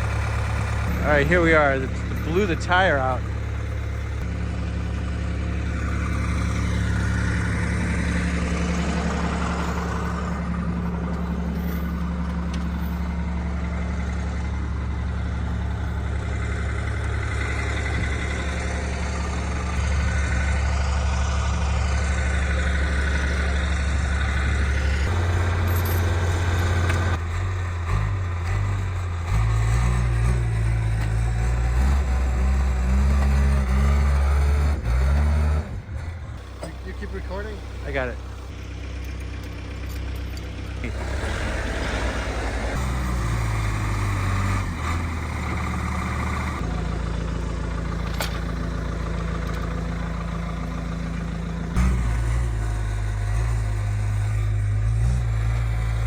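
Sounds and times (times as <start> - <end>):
heavy equipment engine running: 0.0 - 56.0.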